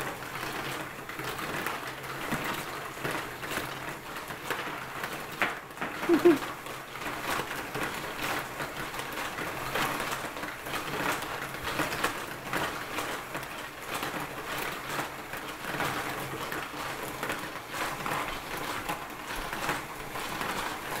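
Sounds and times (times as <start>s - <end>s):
marbles clattering through plastic tracks: 0.0s - 21.0s.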